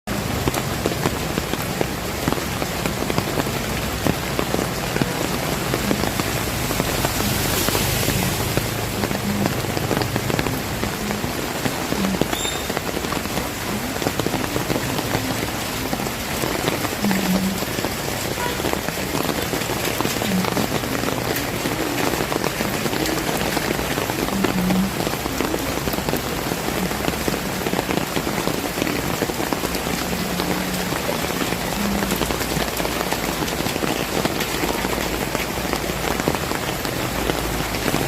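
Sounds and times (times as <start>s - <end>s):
heavy drips: 0.1s - 38.0s
heavy rain pattering: 0.1s - 38.0s.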